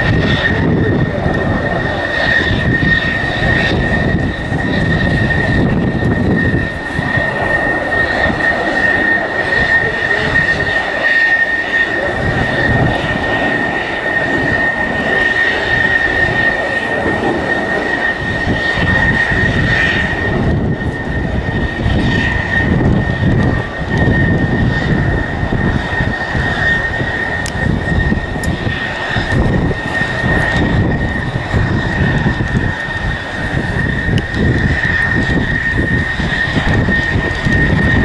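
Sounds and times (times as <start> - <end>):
jet engine rumble with high whine: 0.0 - 38.0.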